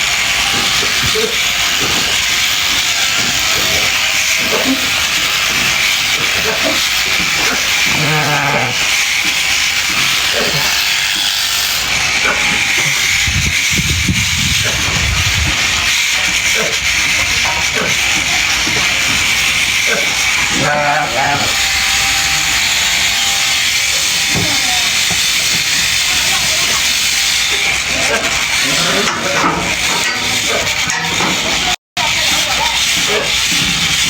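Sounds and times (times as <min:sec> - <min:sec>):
electric clippers buzzing: 0:00.0 - 0:34.0
sheep bleating: 0:00.1 - 0:13.3, 0:15.6 - 0:34.0.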